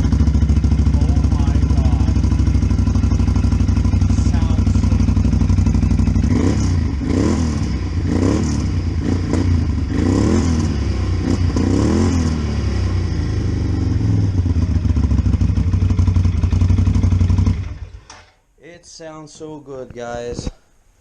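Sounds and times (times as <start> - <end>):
atv engine revving and idling: 0.0 - 18.2.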